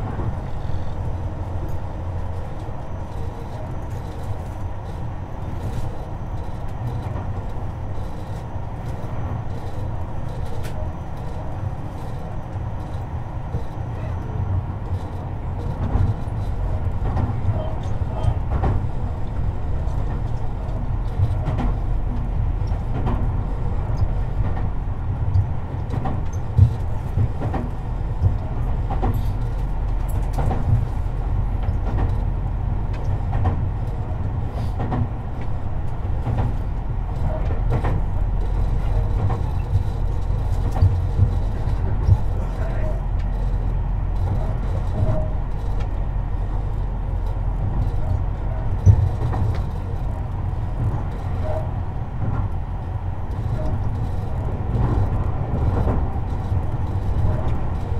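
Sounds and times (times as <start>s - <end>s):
train low rumble: 0.0s - 57.9s.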